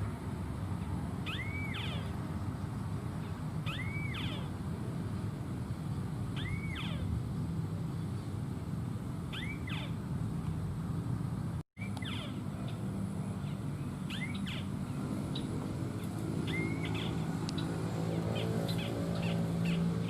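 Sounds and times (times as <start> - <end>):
bird chirping: 0.8 - 8.4, 9.3 - 10.1, 11.8 - 20.0.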